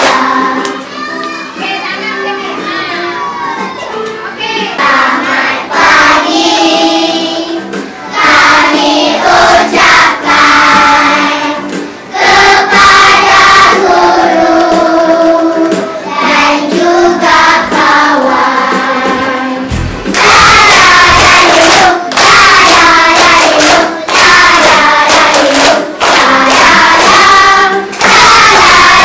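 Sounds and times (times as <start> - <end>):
children singing: 0.0 - 1.2, 4.8 - 29.0
music: 0.0 - 29.0.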